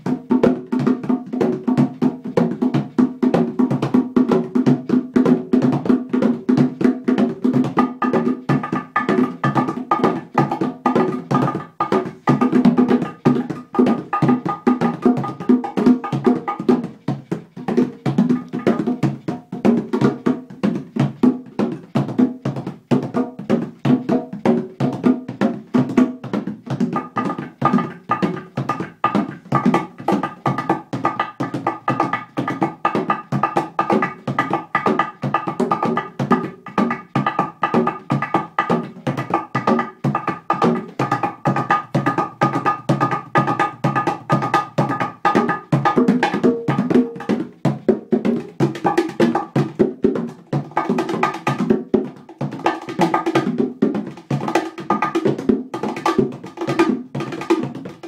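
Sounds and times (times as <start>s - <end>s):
bongos played by hand: 0.0s - 58.0s.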